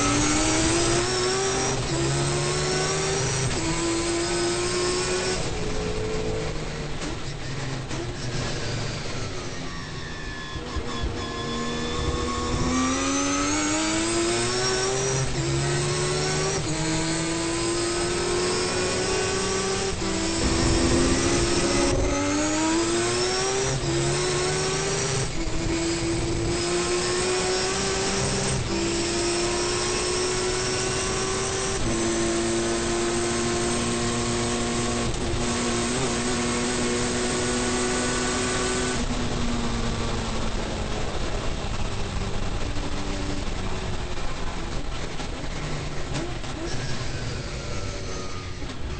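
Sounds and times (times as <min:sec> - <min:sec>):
race car rotary engine revving: 0:00.0 - 0:48.9.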